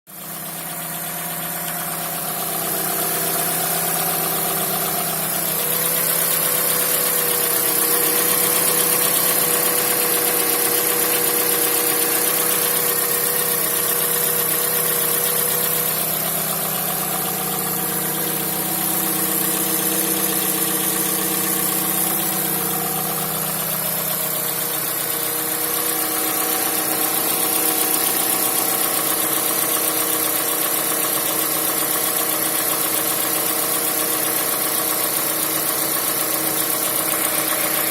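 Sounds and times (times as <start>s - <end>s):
car engine idling with knocking: 0.1s - 37.9s.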